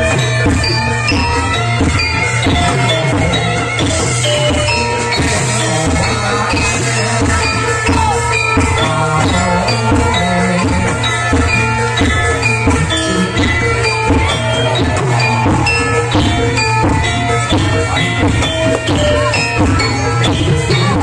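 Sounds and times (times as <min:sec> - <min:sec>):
drums beating: 0:00.0 - 0:21.0
tuned percussion ringing notes: 0:00.0 - 0:21.0.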